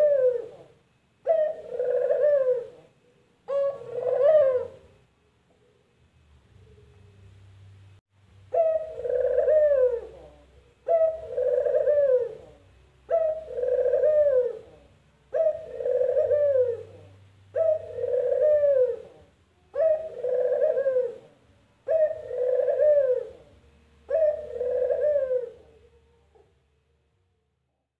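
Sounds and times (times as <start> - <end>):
dove cooing: 0.0 - 5.9, 8.5 - 26.6.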